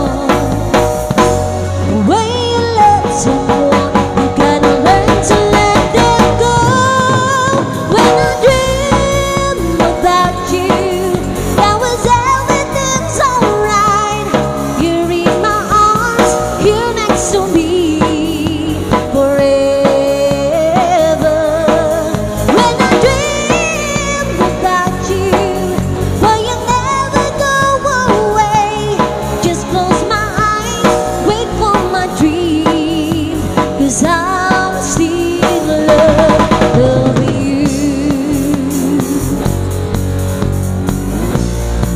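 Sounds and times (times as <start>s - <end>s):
woman singing into microphone: 0.0s - 39.7s
bass guitar: 0.0s - 41.9s
drum kit: 0.0s - 41.9s.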